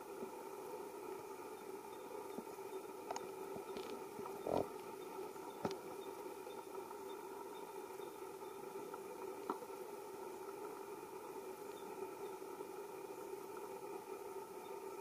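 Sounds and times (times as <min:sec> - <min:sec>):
steady outdoor drone: 0:00.0 - 0:15.0.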